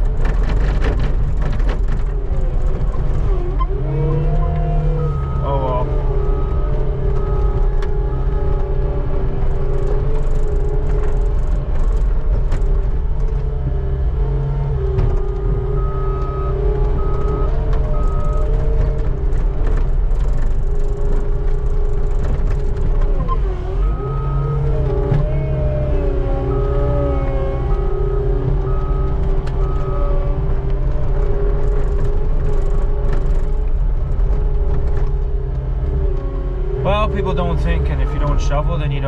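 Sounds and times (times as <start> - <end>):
skid steer engine running: 0.0 - 39.0.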